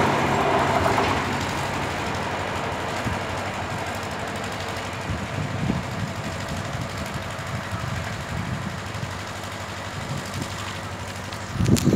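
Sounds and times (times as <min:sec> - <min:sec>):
diesel locomotive rumble: 0:00.0 - 0:11.9.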